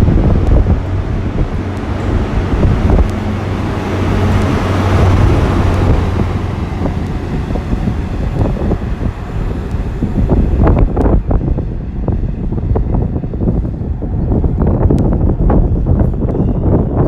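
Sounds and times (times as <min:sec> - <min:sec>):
train engine humming: 0:00.0 - 0:17.0
wind buffeting microphone: 0:00.0 - 0:17.0.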